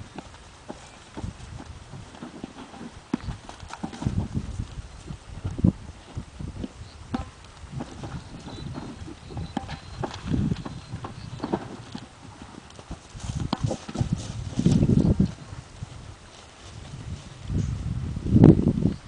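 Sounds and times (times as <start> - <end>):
hooves thudding on dry ground: 0.0 - 18.1.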